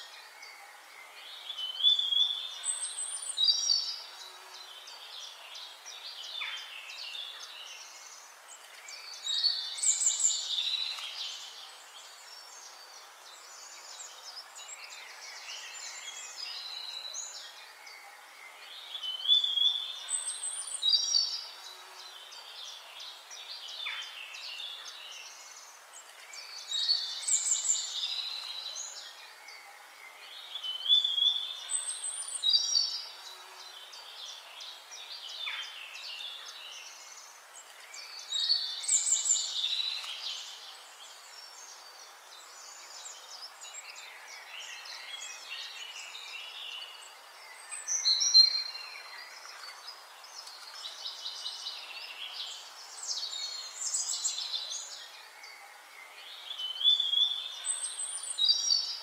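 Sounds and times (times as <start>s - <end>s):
faint hiss: 0.0s - 59.0s
songbirds singing: 0.0s - 59.0s.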